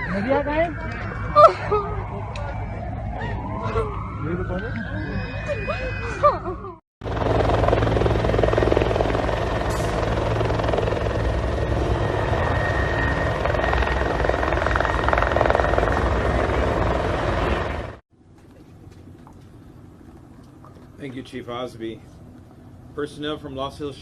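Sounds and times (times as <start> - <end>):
helicopter rotor beating overhead: 0.0 - 18.0, 18.8 - 24.0.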